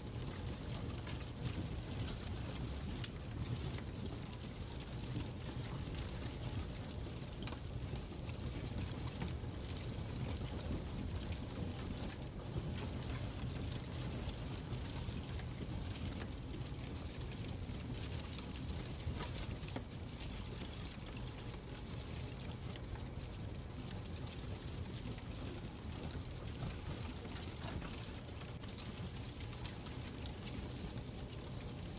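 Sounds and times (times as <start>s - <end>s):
fire burning rumble: 0.0s - 31.9s
fire crackles and pops: 0.0s - 31.9s.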